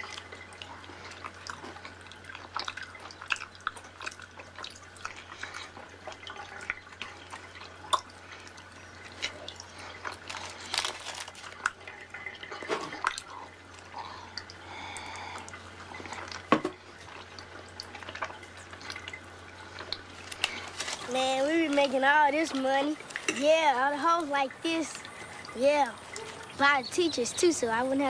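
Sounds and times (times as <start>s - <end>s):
wet chewing sounds: 0.0s - 23.4s, 24.2s - 27.5s
bathwater splashing: 0.0s - 28.0s.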